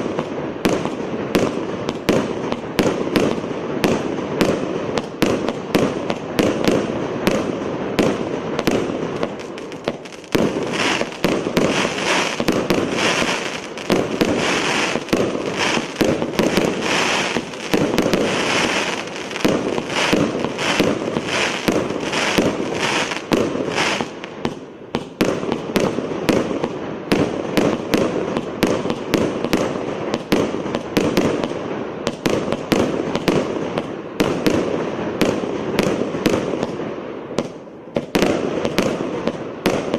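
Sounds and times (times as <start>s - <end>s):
fireworks barrage of bangs: 0.0s - 39.9s.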